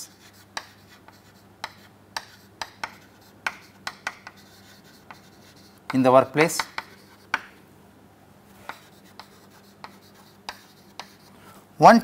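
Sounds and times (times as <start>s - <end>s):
chalk writing on chalkboard: 0.0s - 7.6s, 8.6s - 11.4s.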